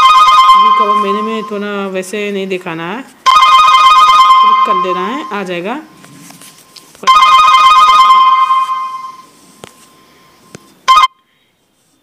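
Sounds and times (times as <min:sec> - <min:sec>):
phone ringtone: 0:00.0 - 0:01.8, 0:03.3 - 0:11.3.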